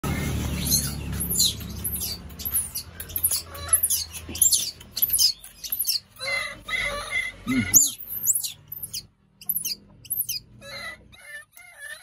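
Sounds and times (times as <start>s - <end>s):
baby monkey shrill squeals: 0.6s - 12.0s.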